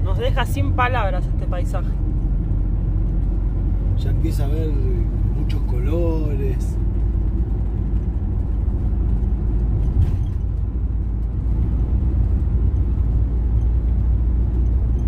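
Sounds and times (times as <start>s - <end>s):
van engine and tyre rumble: 0.0s - 15.0s.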